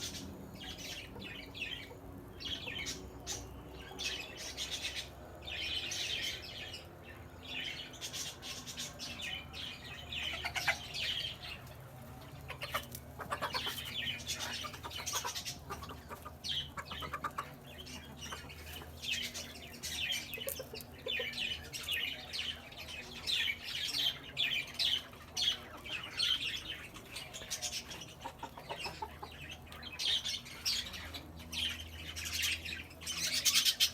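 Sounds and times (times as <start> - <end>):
birds chirping and calling: 0.0 - 33.9
faint low background hum: 0.0 - 33.9.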